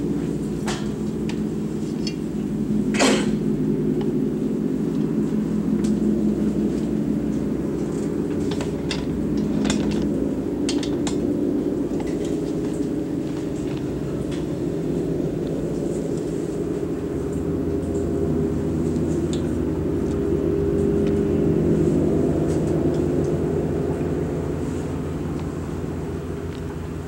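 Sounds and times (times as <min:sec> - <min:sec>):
gongs humming low tones: 0:00.0 - 0:27.0.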